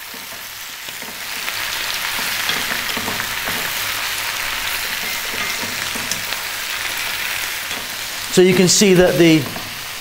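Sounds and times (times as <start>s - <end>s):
spinach sizzling in a pan: 0.0s - 10.0s.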